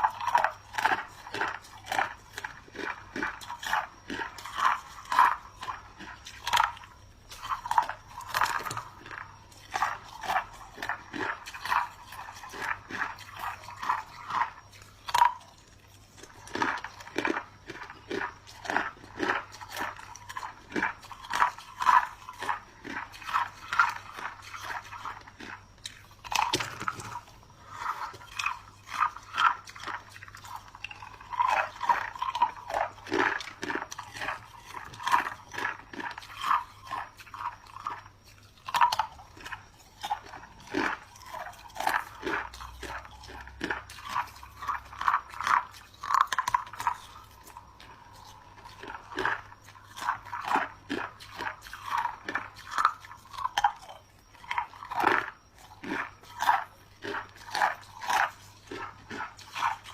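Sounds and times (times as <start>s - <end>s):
person chewing ice: 0.0s - 59.9s.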